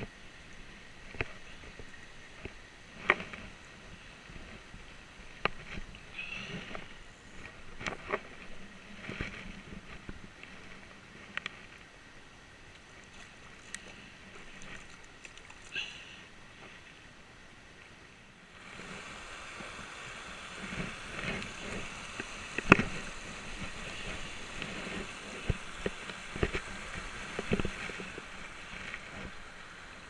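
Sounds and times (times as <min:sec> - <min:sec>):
stream rushing over stones: 0:00.0 - 0:30.0.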